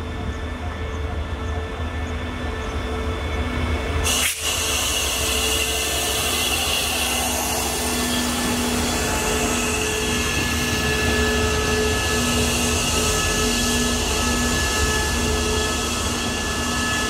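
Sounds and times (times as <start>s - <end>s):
diesel locomotive passing: 0.0s - 17.0s
locomotive engine drone with whine: 0.0s - 17.0s.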